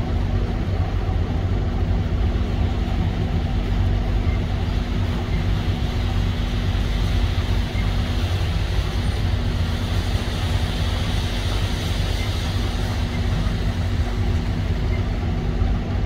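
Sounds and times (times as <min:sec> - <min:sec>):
diesel engine running at low revs: 0:00.0 - 0:16.0.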